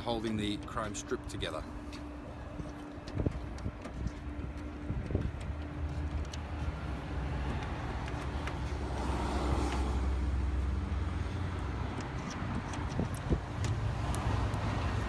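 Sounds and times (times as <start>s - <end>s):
motor vehicle engine hum: 0.0s - 15.0s.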